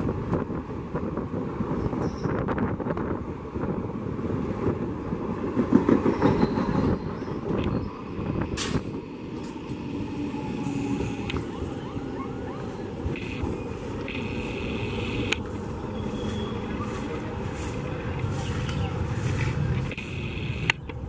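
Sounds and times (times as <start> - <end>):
distant train approaching: 0.0 - 21.0
train wheels rumbling on rails: 0.0 - 21.0.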